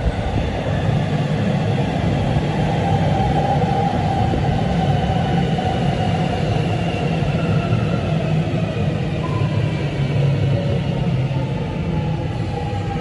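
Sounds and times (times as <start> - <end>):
faint train whine: 0.0 - 13.0
train wheels rumbling on rails: 0.0 - 13.0.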